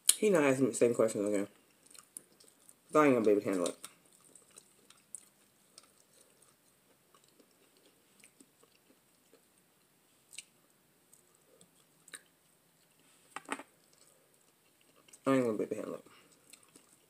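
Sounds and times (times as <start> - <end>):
faint close-up chewing: 1.2 - 17.0.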